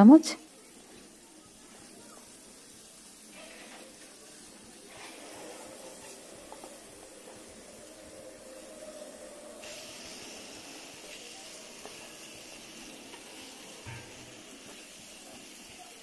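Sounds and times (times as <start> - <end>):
paste sizzling in oil: 0.4 - 16.0.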